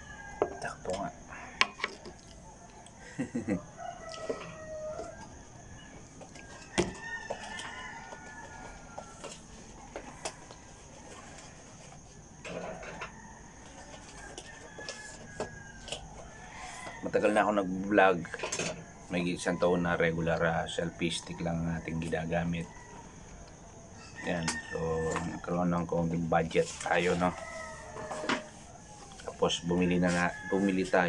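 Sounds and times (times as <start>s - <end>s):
rooster crowing: 0.0s - 31.0s.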